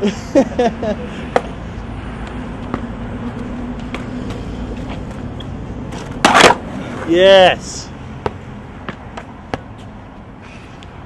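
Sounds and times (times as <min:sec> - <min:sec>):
skateboard wheels rolling on pavement: 0:00.0 - 0:11.0.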